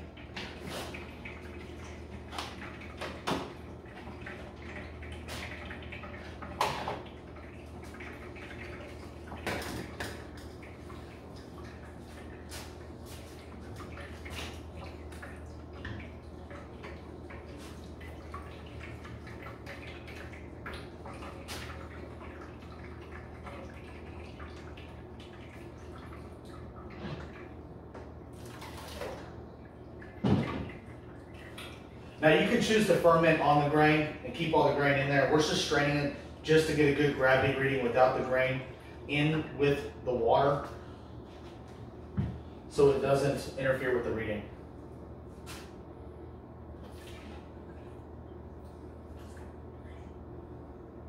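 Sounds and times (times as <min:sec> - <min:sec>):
liquid dripping and trickling: 0:00.0 - 0:39.1, 0:46.7 - 0:50.8
steady low hum: 0:00.0 - 0:51.0.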